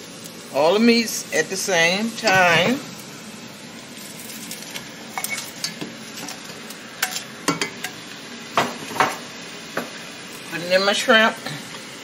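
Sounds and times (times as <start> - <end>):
hiss of hot stew: 0.0 - 12.0.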